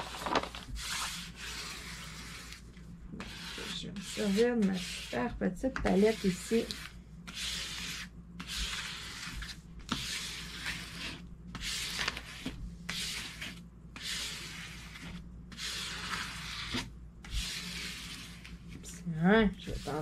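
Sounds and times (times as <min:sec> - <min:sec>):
plastic scraper scraping paper: 0:00.0 - 0:02.6, 0:03.2 - 0:18.5.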